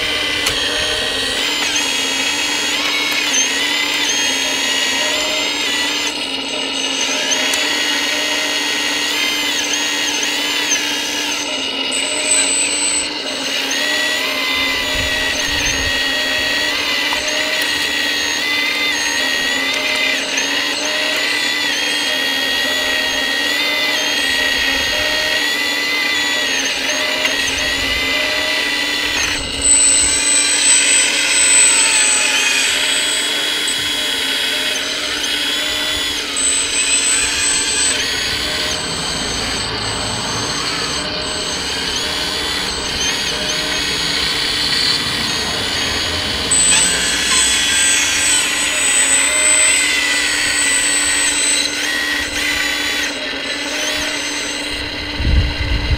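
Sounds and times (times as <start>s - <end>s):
higher-pitched whine: 0.0s - 55.9s
hydraulic pump whining: 0.0s - 55.9s.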